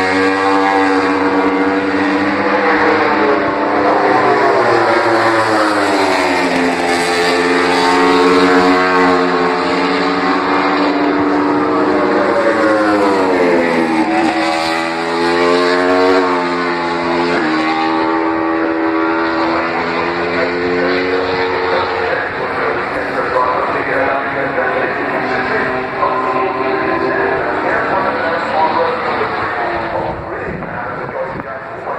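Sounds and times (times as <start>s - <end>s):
racing motorcycles at high revs: 0.0s - 31.9s.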